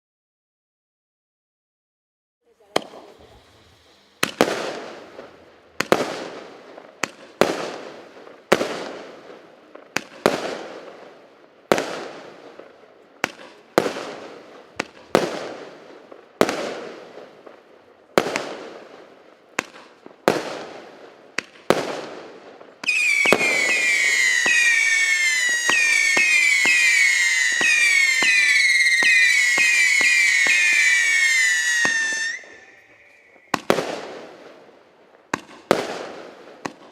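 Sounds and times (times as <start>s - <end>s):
whistling fireworks volley: 2.5s - 36.9s
fireworks bangs: 2.6s - 36.9s.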